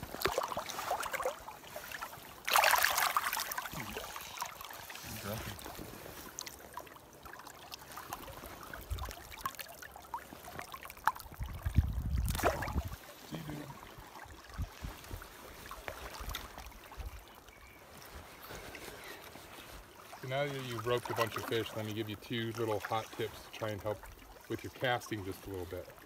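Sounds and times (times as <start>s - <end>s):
river water lapping: 0.0s - 26.0s.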